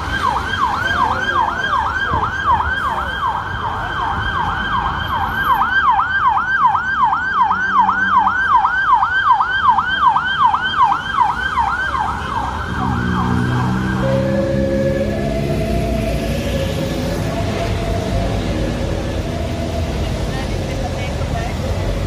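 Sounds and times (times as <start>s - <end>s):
siren yelping: 0.0s - 21.4s.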